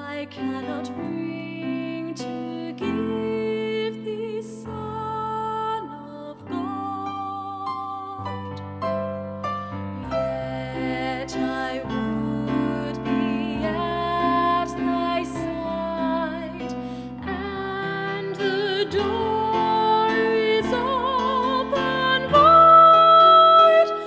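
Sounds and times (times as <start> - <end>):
woman singing a carol: 0.0 - 8.4, 10.0 - 24.0
sustained keyboard chords: 0.8 - 24.0.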